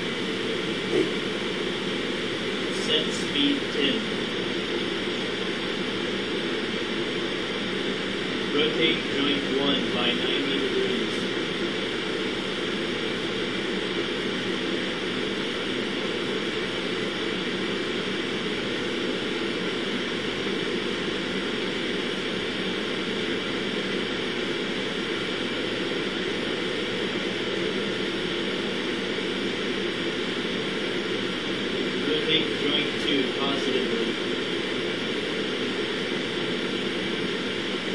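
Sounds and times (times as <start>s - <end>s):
ventilation hiss and hum: 0.0s - 37.9s.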